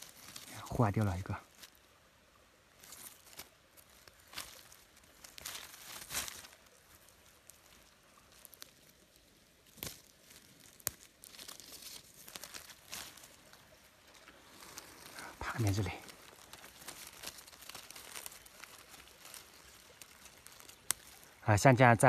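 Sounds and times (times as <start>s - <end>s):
dry leaves rustling and crackling: 0.0s - 22.0s.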